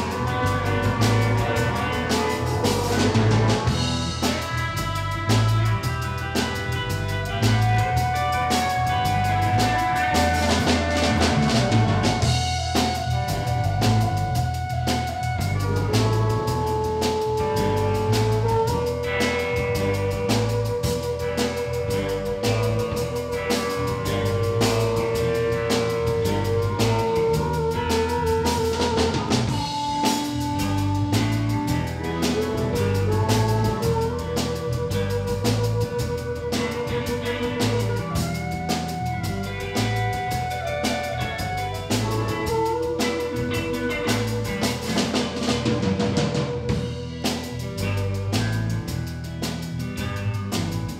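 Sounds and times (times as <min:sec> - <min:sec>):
bass: 0:00.0 - 0:50.9
drum kit beat: 0:00.0 - 0:50.9
electric guitar: 0:00.0 - 0:50.9
harmonica solo: 0:00.0 - 0:50.9.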